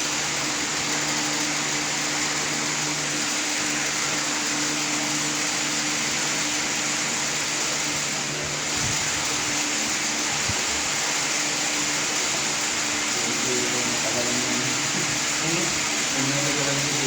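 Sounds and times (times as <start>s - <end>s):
whirring machine noise: 0.0s - 17.0s.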